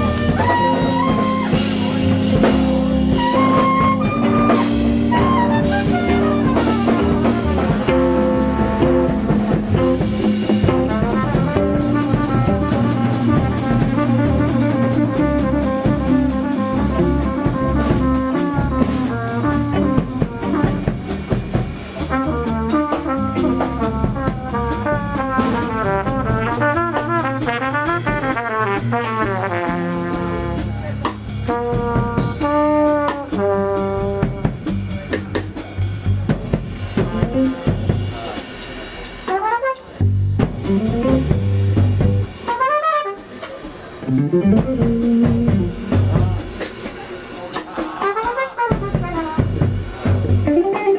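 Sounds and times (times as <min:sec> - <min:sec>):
jazz trumpet solo: 0:00.0 - 0:38.4, 0:39.2 - 0:46.6, 0:48.0 - 0:50.9
bass: 0:00.0 - 0:42.8, 0:43.8 - 0:50.9
drum kit: 0:00.0 - 0:50.9.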